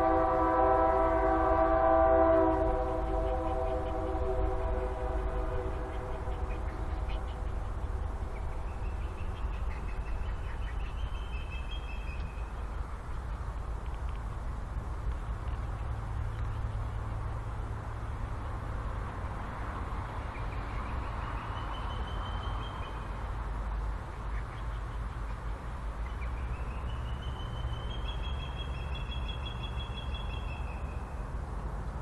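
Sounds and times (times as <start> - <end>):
diesel locomotive engine rumble: 0.0 - 32.0.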